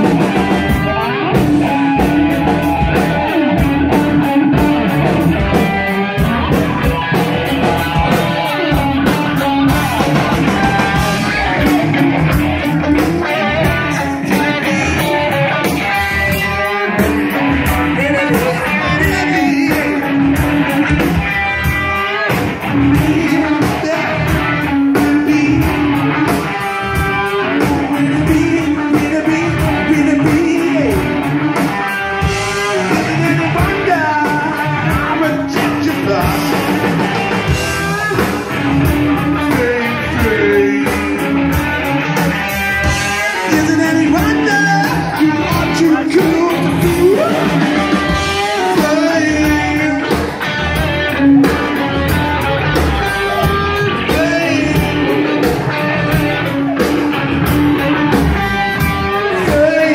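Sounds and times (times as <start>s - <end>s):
drum kit beat: 0.0s - 59.9s
electric guitars: 0.0s - 59.9s
live rock band: 0.0s - 59.9s.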